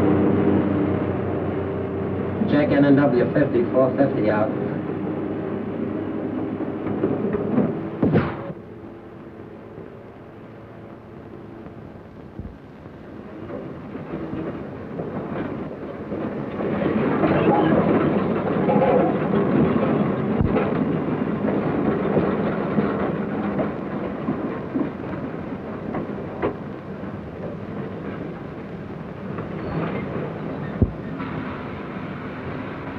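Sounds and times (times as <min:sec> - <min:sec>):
freight train rumble: 0:00.0 - 0:32.9
wheels clicking on track: 0:00.0 - 0:32.9.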